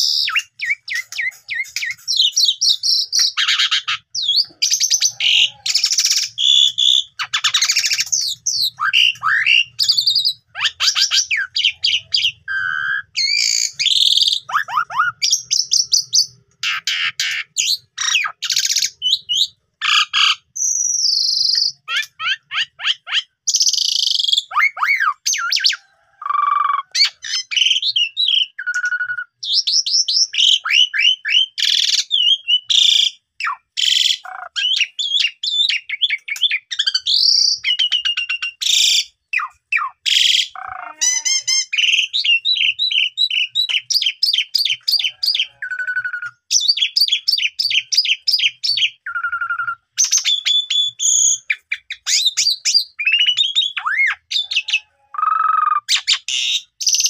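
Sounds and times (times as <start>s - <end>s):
starling singing varied song: 0.0s - 23.7s, 24.4s - 57.0s.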